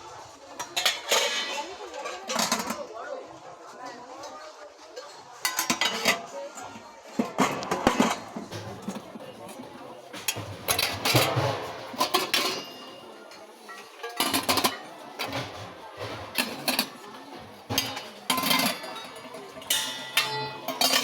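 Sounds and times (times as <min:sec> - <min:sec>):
metal kitchenware clattering: 0:00.6 - 0:02.9, 0:05.0 - 0:21.0.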